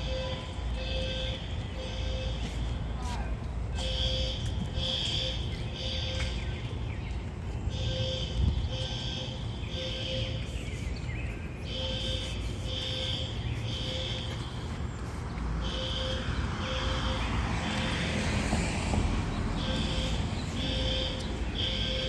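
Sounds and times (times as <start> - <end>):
fire alarm beeping: 0.0 - 6.9, 7.6 - 11.0, 11.6 - 14.9, 15.6 - 18.4, 19.2 - 22.0.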